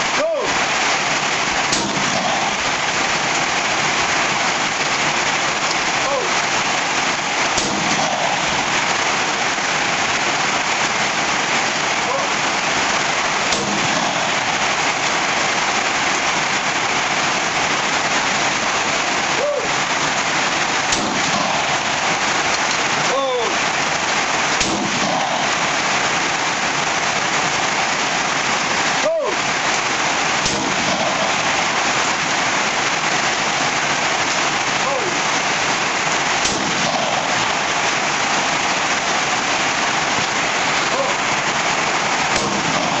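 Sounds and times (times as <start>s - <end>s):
heavy rain drumming on surfaces: 0.0s - 43.0s.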